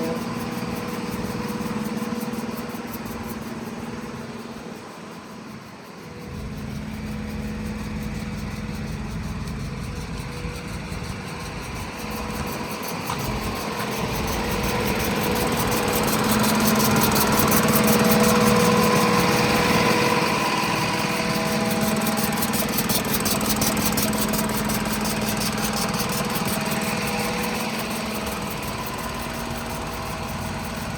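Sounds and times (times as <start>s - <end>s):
street sweeper truck running: 0.0s - 5.1s, 6.0s - 30.9s.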